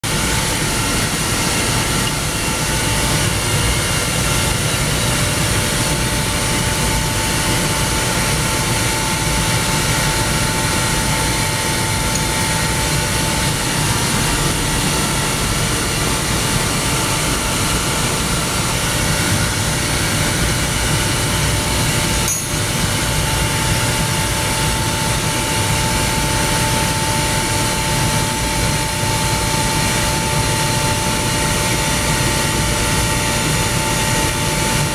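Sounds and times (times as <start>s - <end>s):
air compressor running: 0.0s - 34.9s
machine whine: 0.0s - 34.9s.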